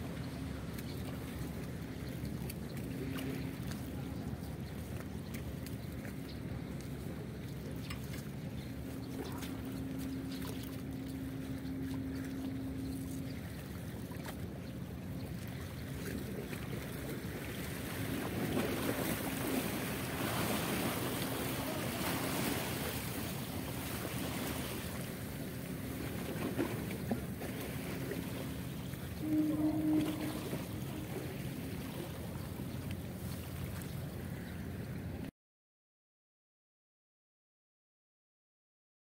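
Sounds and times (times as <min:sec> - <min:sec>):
boat engine droning: 0:00.0 - 0:35.3
water noise: 0:00.0 - 0:35.3
wind: 0:00.0 - 0:35.3.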